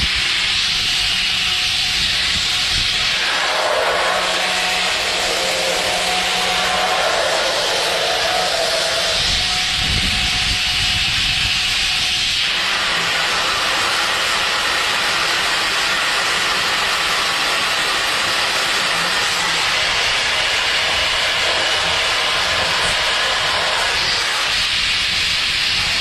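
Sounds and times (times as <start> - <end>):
compressed air hissing: 0.0 - 26.0
milling machine cutting: 0.0 - 26.0.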